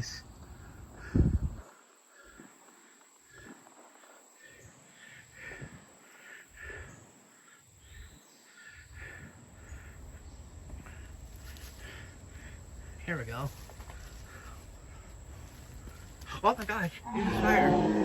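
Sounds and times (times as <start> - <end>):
faint bird calls: 0.0 - 18.0.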